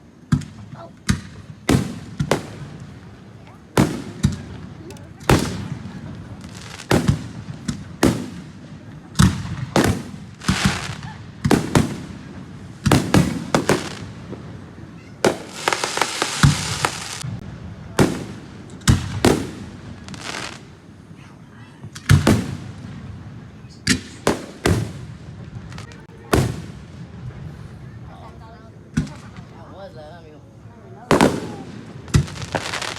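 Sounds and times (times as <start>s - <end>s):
fireworks bangs: 0.0s - 30.0s, 31.0s - 32.9s
fireworks crackling: 0.0s - 32.9s.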